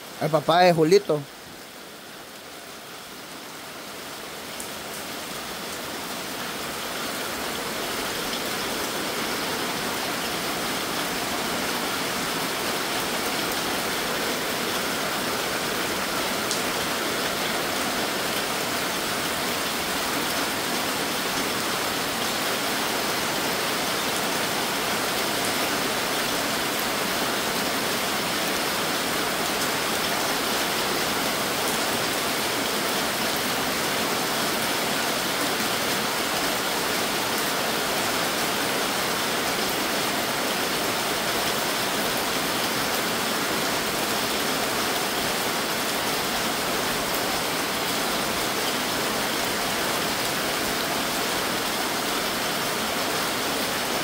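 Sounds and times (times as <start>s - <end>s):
heavy rain on metal roof: 0.0s - 54.0s.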